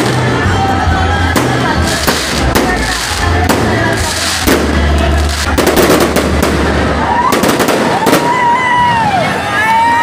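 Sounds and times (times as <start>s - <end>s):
fireworks bursting with bangs: 0.0s - 9.0s.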